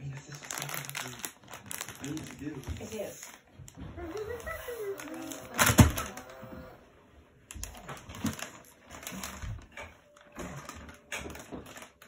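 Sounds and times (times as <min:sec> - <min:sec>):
plastic pack crinkling: 0:00.0 - 0:06.7, 0:07.6 - 0:12.0.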